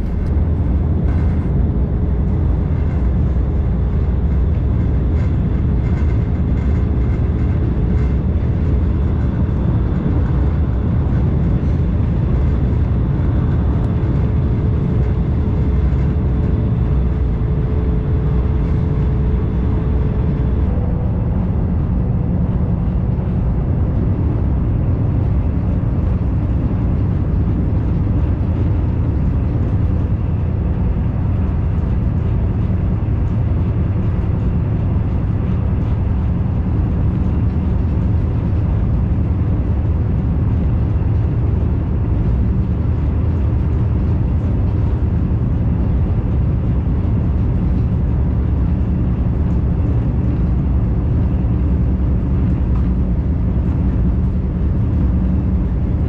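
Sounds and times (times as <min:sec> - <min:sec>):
faint steady hum: 0:00.0 - 0:56.0
train wheels rumbling on rail: 0:00.0 - 0:56.0.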